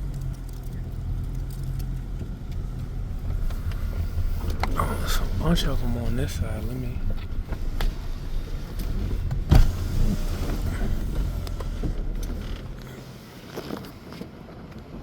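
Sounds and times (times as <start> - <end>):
car rumbling: 0.0 - 15.0.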